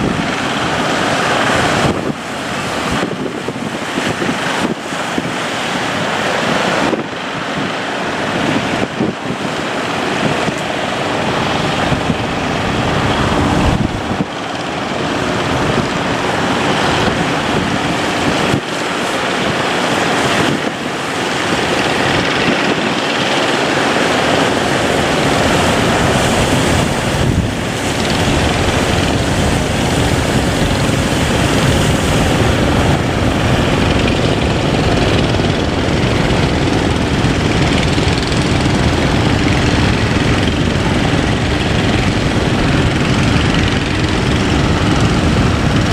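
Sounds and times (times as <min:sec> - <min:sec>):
boat engine rumbling: 0:00.0 - 0:45.9
waves rushing: 0:00.0 - 0:45.9
wind buffeting microphone: 0:00.0 - 0:45.9.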